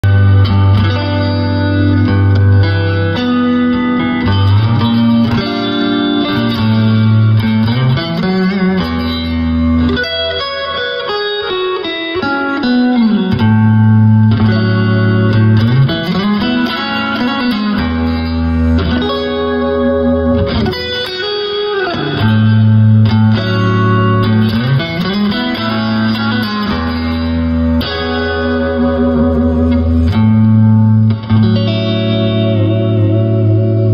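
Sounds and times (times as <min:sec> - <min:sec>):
clean electric guitar chords: 0:00.0 - 0:33.9.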